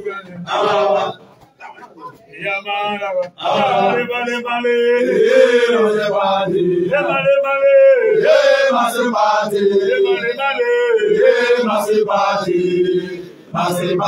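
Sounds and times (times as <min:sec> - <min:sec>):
voices singing a chant: 0:00.0 - 0:14.0.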